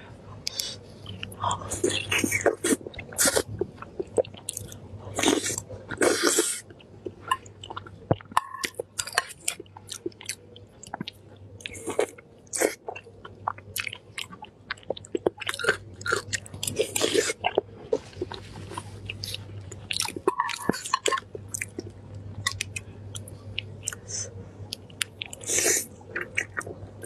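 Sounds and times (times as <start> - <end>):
chewing with wet mouth clicks: 0.5 - 26.8.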